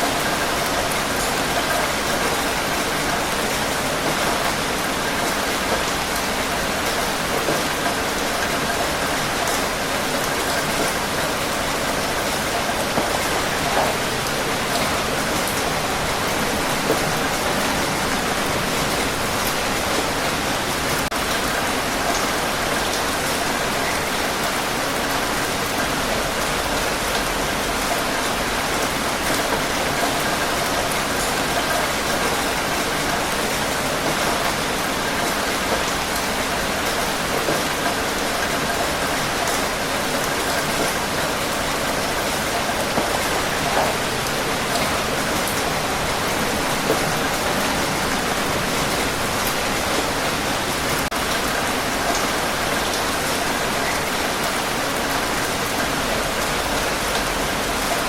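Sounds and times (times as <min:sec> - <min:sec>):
rain hiss: 0:00.0 - 0:58.0
raindrop patters: 0:00.1 - 0:23.9, 0:25.6 - 0:53.4.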